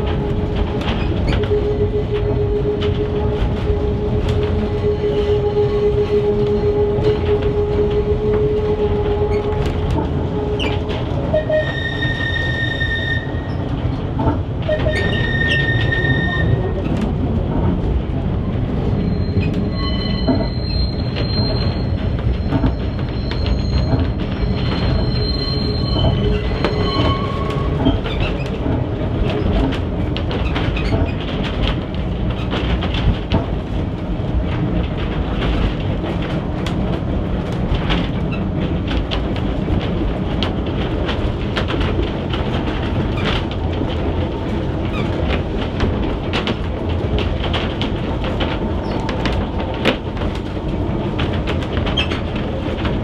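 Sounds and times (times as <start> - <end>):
tram wheels rumbling: 0.0 - 53.0
wheels clicking over rail joints: 6.7 - 53.0.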